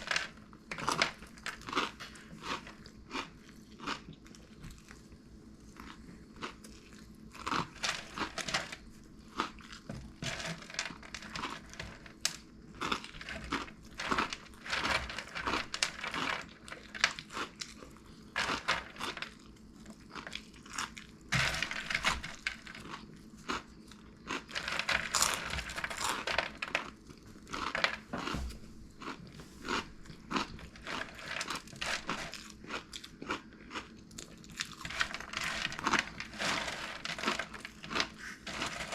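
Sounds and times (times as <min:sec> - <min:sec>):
crunchy snack being chewed: 0:00.0 - 0:38.9.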